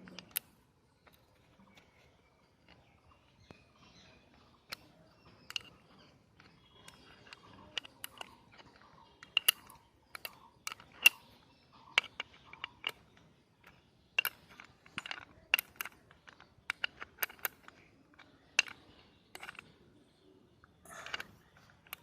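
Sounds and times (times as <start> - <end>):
clinks of tools and metal parts: 0.0 - 1.8, 4.7 - 19.7, 20.9 - 22.0.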